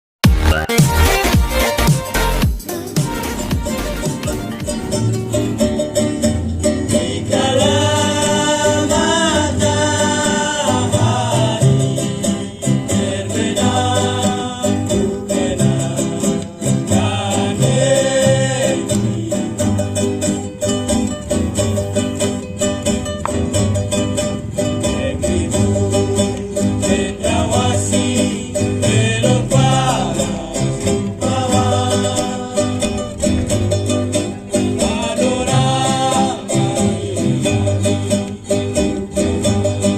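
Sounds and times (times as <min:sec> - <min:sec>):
plucked and strummed strings: 0:00.2 - 0:39.9
pulsing bass line: 0:00.2 - 0:39.9
voices singing: 0:00.4 - 0:39.9.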